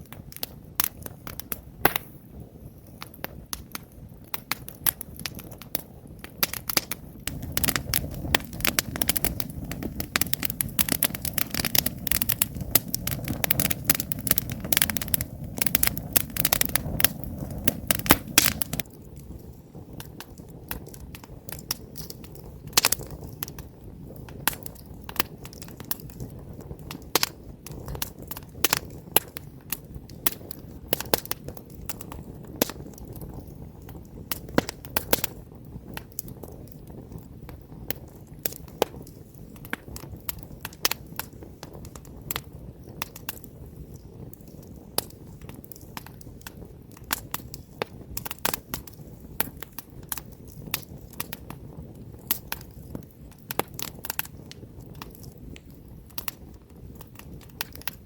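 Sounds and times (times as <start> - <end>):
wood campfire crackling: 0.0 - 58.0.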